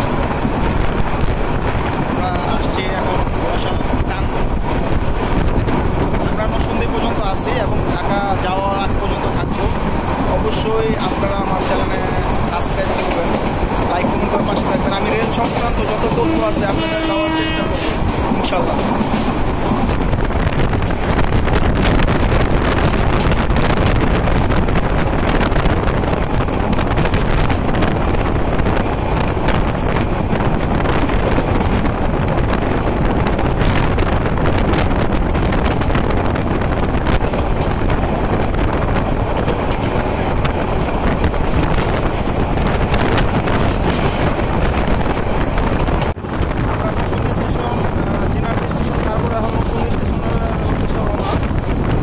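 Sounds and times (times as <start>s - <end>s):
train rumbling on track: 0.0s - 52.0s
wind buffeting microphone: 0.0s - 52.0s.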